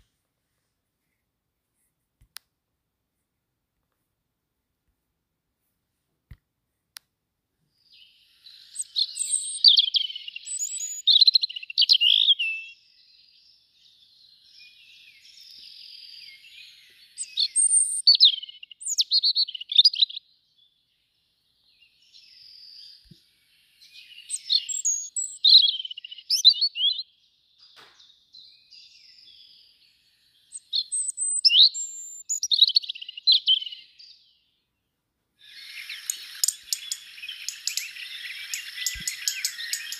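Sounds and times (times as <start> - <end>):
robin singing: 7.7 - 39.9.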